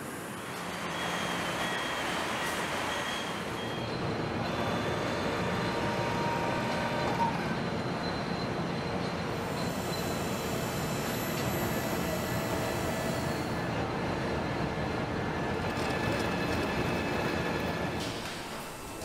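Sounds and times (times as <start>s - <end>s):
faint high machine whines: 0.0s - 19.0s.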